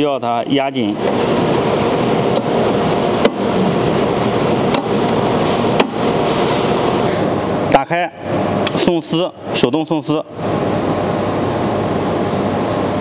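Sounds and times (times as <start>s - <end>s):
steady machine noise: 0.0s - 13.0s.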